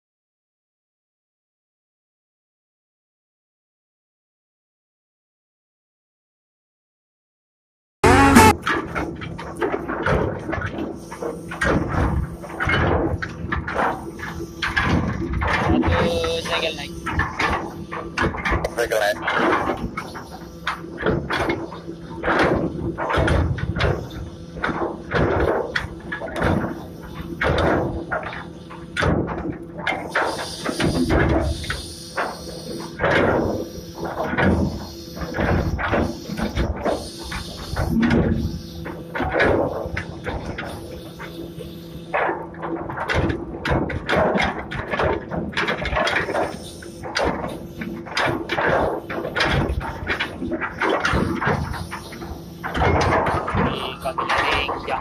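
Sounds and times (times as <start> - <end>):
windlass hum: 8.0 - 55.0.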